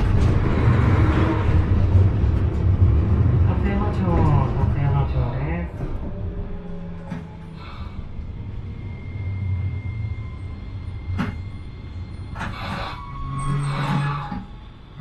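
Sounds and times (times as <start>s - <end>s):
streetcar wheels and motor rumble: 0.0s - 15.0s.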